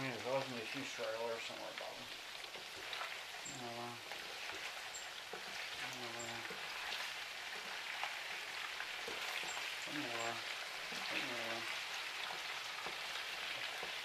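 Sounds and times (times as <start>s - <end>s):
faint crackles: 0.0s - 14.0s
meatballs sizzling in a pan: 0.0s - 14.0s.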